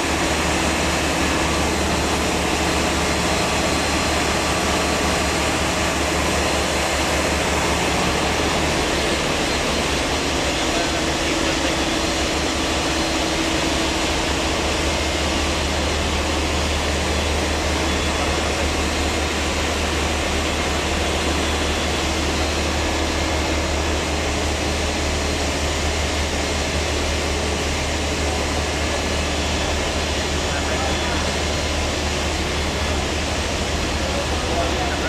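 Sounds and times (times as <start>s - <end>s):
boat engines droning: 0.0s - 35.0s.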